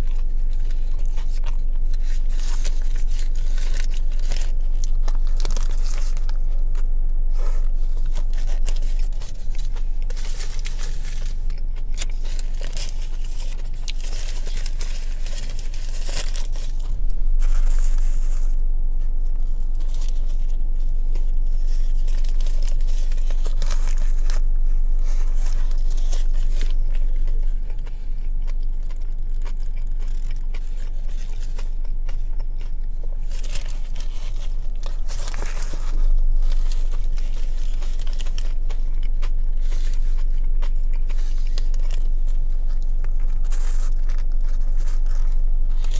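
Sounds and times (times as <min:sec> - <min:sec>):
low hum: 0:00.0 - 0:45.9
paper wrapper crinkling: 0:00.0 - 0:45.9
person chewing: 0:00.0 - 0:45.9.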